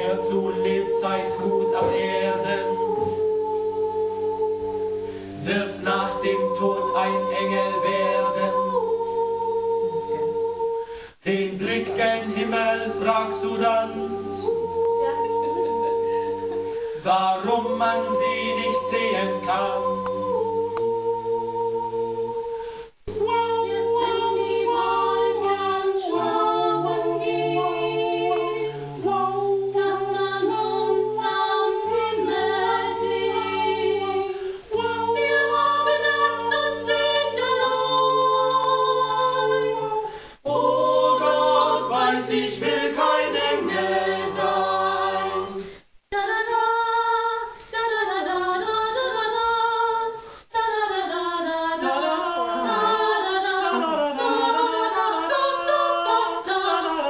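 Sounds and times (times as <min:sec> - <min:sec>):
a cappella choir singing: 0:00.0 - 0:57.0.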